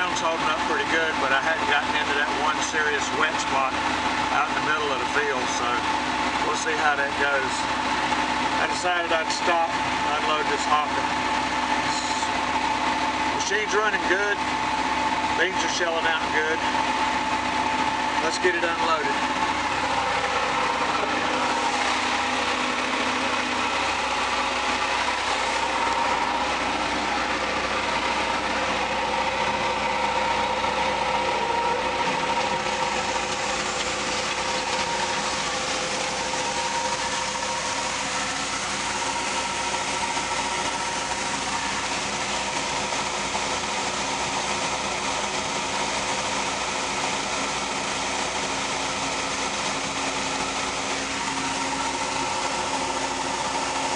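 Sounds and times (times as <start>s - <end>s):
combine harvester humming: 0.0s - 53.9s.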